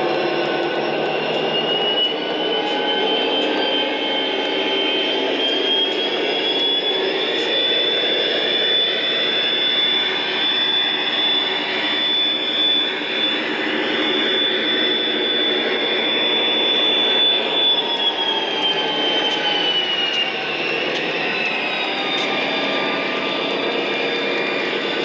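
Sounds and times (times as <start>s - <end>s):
high whine: 0.0s - 25.0s.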